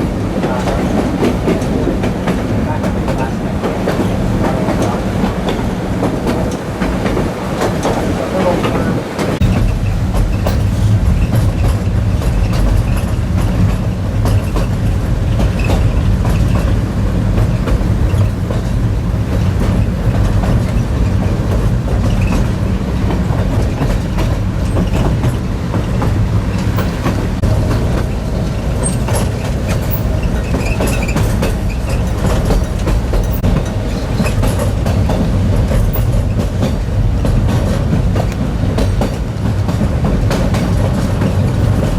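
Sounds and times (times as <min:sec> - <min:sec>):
train rumbling along track: 0:00.0 - 0:41.9
wheels clicking over rails: 0:00.0 - 0:41.9.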